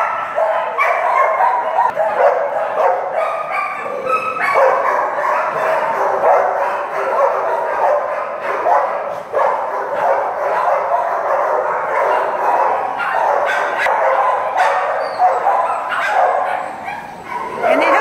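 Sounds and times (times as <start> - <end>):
dogs barking and yipping: 0.0 - 18.0.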